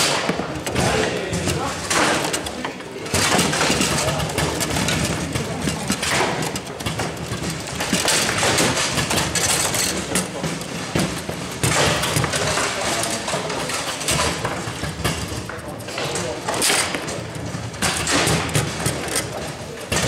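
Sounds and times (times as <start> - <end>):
table football ball and rods clacking: 0.0 - 20.0.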